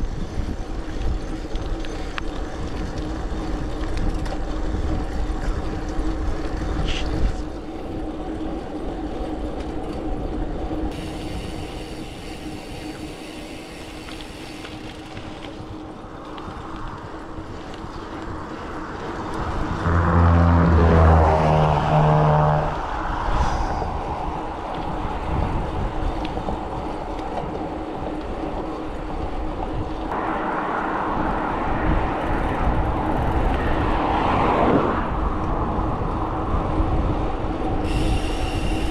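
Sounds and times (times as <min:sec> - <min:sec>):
wind rushing over microphone: 0:00.0 - 0:13.3, 0:13.9 - 0:38.9
bike tyres rolling: 0:00.0 - 0:38.9.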